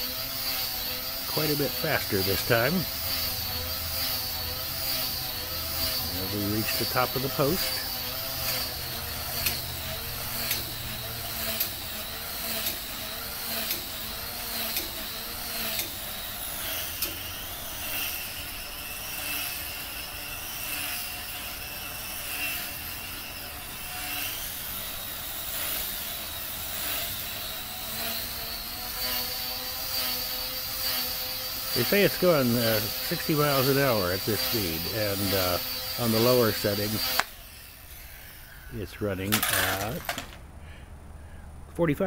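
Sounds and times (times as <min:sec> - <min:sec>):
model plane electric motor whining: 0:00.0 - 0:40.9.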